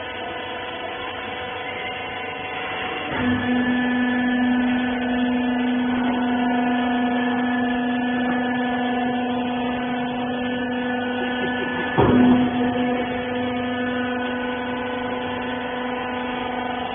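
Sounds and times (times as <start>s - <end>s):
hydraulic pump motor humming: 0.0s - 16.9s.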